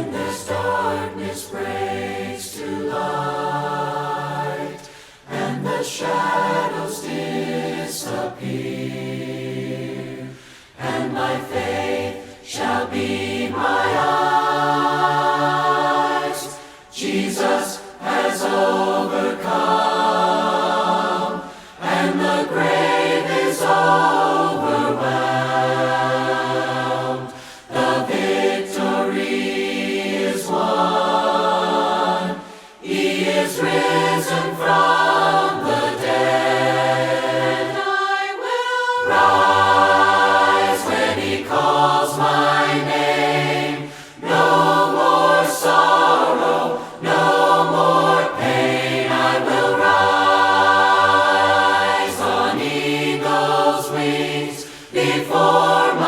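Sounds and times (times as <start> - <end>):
choir singing a cappella hymn: 0.0 - 56.0.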